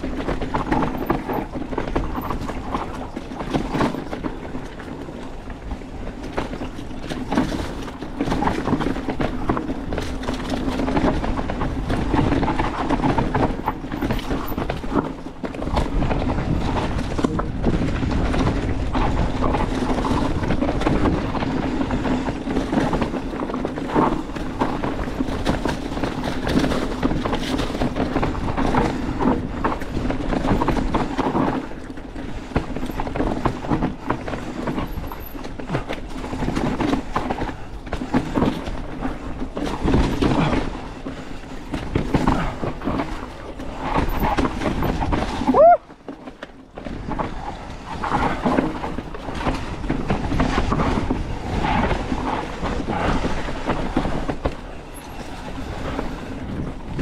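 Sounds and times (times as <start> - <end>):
bike rattling and clattering: 0.0 - 57.0
tyres rolling on dirt: 0.0 - 57.0.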